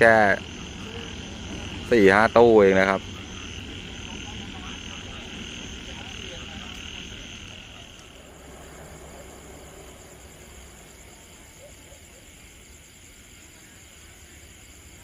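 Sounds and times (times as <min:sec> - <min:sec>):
low steady rumble: 0:00.0 - 0:12.9
crickets chirring: 0:00.0 - 0:15.0.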